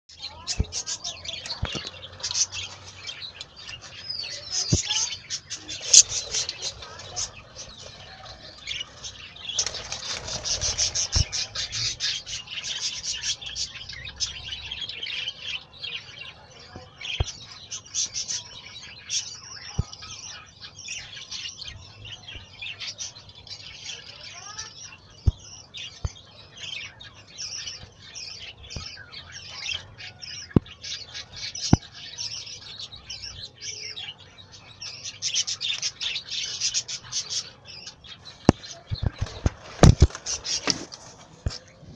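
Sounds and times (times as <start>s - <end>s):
parrot chicks chirping: 0.1s - 41.9s.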